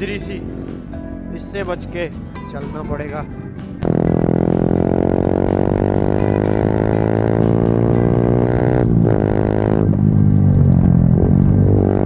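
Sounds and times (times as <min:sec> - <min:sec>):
motorcycle engine accelerating: 0:00.0 - 0:02.5, 0:03.5 - 0:12.0.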